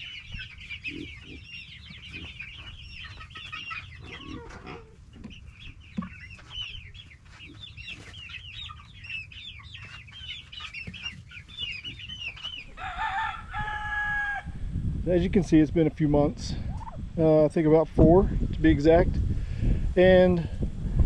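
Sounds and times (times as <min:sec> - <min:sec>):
chicks peeping: 0:00.0 - 0:19.4.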